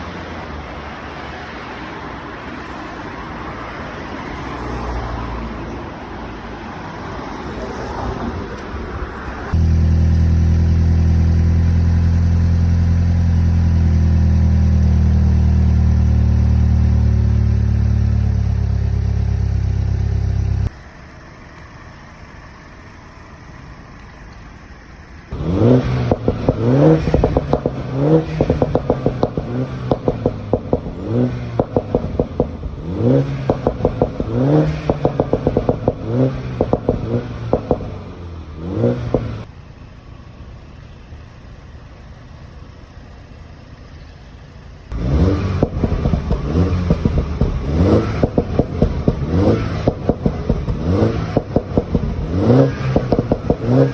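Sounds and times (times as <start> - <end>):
car engine running: 9.5 - 53.9
engine throttle blips: 9.5 - 53.9.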